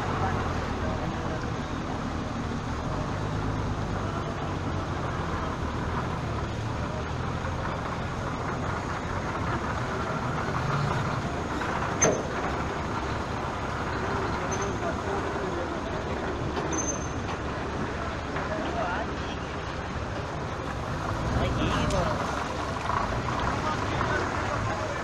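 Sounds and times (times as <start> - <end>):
street traffic noise: 0.0 - 25.0
truck engine running: 0.0 - 25.0.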